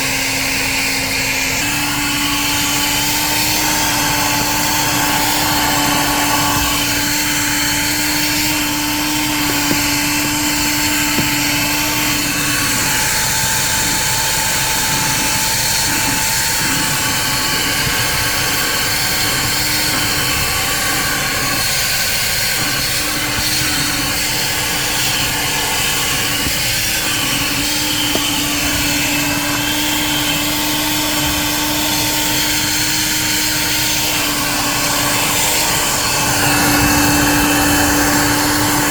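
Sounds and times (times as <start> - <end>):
shop vacuum running: 0.0 - 38.9.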